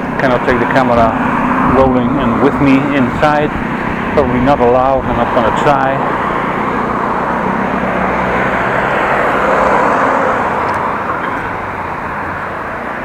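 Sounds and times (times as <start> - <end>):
wind and road rushing noise: 0.0 - 13.0.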